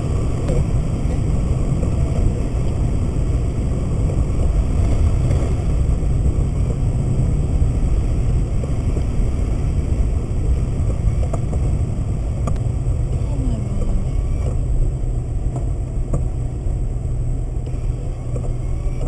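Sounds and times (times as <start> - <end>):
windscreen wiper ticks: 0.0 - 7.4, 8.4 - 16.5, 17.5 - 19.0
car cabin road rumble: 0.0 - 19.0.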